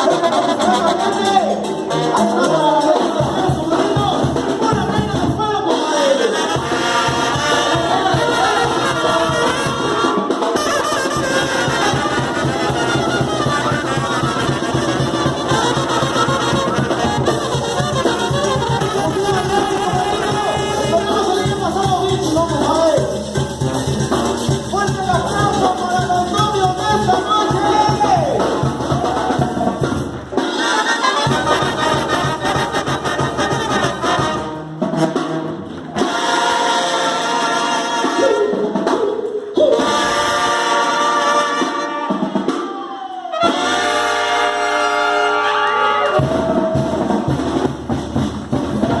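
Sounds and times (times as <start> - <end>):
brass horns: 0.0 - 49.0
drums: 0.0 - 49.0
upbeat latin party music: 0.0 - 49.0.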